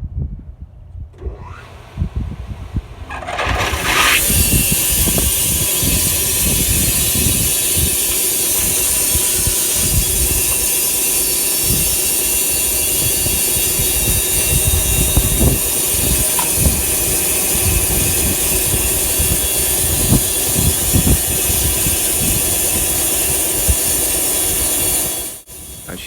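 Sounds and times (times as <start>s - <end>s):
machine hiss: 3.4s - 26.0s.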